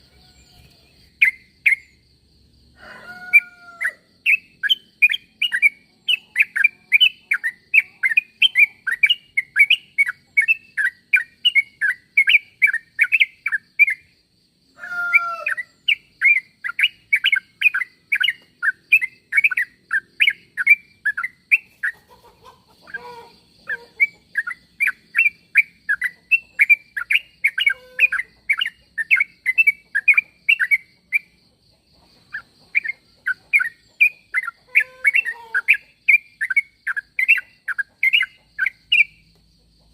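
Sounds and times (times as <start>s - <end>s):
bulbul chattering call: 3.3s - 14.1s, 14.9s - 31.4s, 32.3s - 39.3s.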